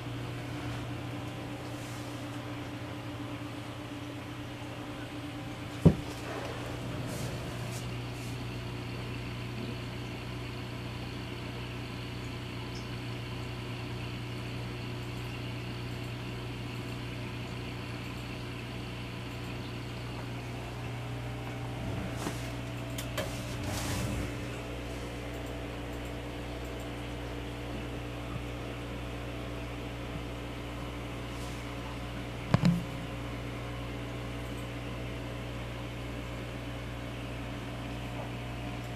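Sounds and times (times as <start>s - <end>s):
aquarium equipment humming: 0.0s - 38.9s.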